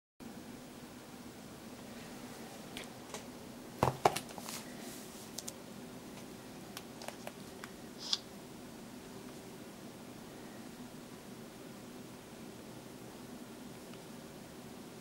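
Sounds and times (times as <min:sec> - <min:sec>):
faint steady hum: 0:00.2 - 0:15.0.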